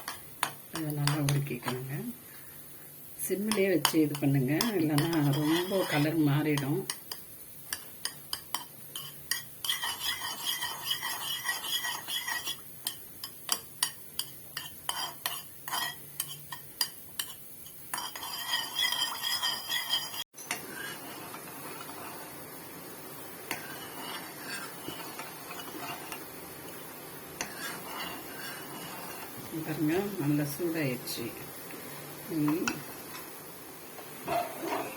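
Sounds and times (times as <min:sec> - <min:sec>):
metal spoon scraping a pan: 0:00.0 - 0:02.0, 0:03.3 - 0:22.4, 0:23.4 - 0:30.2, 0:34.2 - 0:34.9
ghee sizzling: 0:00.0 - 0:34.9.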